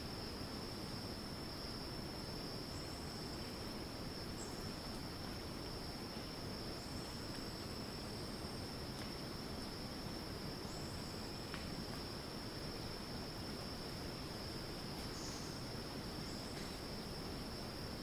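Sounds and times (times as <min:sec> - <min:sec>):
cicada steady high drone: 0:00.0 - 0:18.0
faint high insect calls: 0:00.0 - 0:18.0.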